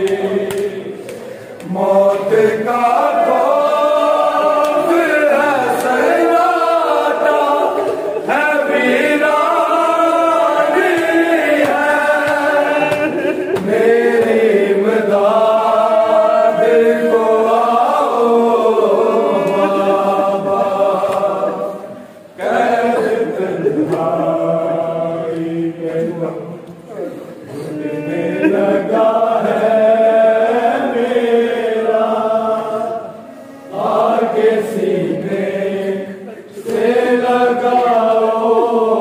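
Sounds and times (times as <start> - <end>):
group chanting a lament: 0.0 - 39.0.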